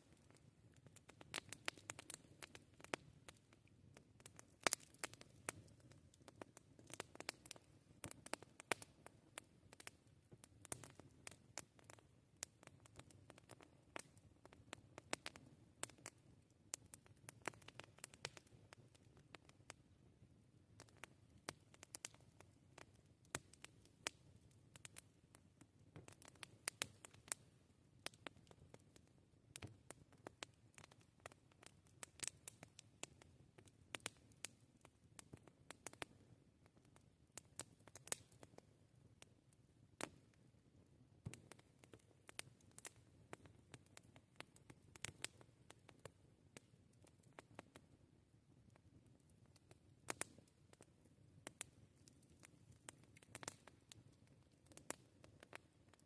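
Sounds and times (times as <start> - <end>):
campfire crackling: 0.0 - 39.3, 40.0 - 40.5, 41.2 - 48.0, 48.7 - 56.0.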